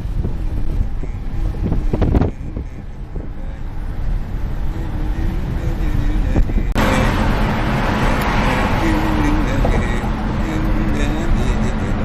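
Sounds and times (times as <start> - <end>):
car road and engine rumble: 0.0 - 12.0
wind buffeting microphone: 0.0 - 12.0.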